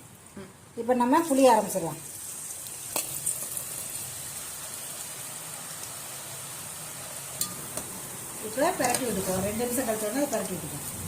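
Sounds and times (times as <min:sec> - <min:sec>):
dough sizzling in hot oil: 0:00.0 - 0:11.0.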